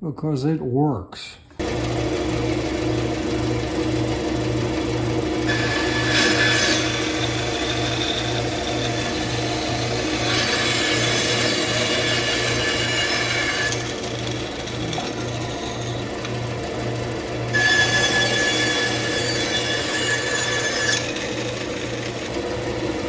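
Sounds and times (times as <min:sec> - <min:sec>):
tool working wood: 0:03.6 - 0:23.0.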